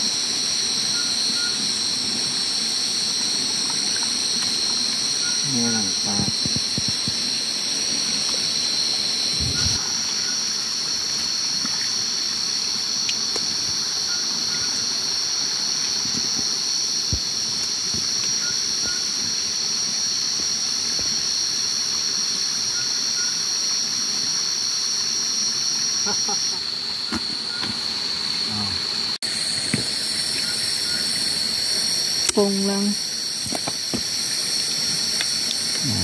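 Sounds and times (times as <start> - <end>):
night insects chorus: 0.0 - 36.0.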